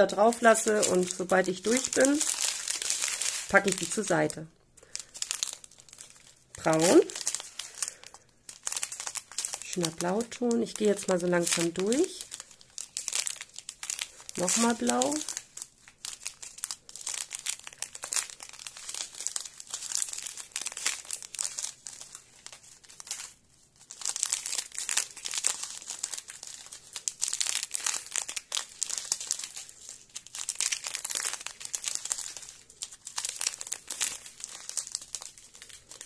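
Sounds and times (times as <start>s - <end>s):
plastic packs crinkling: 0.0s - 36.0s.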